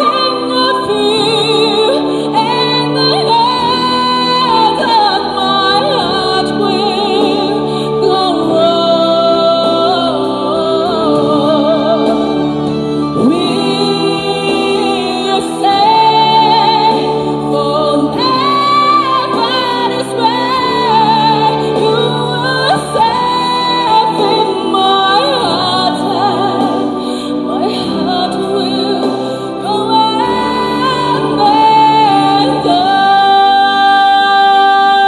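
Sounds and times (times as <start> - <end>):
instrumental backing music: 0.0 - 35.0
woman singing: 0.0 - 35.0.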